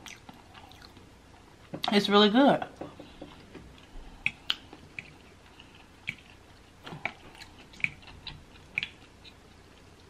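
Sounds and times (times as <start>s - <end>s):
wet chewing of soft food: 0.0s - 1.7s, 3.3s - 10.0s.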